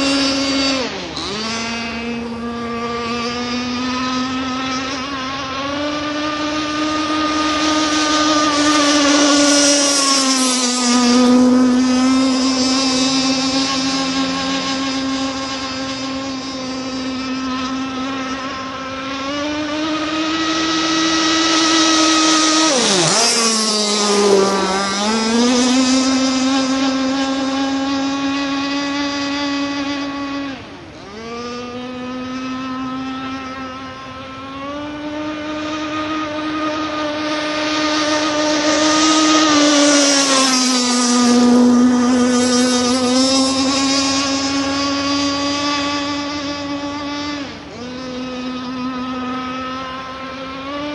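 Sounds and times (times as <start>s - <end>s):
model boat motor high-pitched whine: 0.0s - 50.9s.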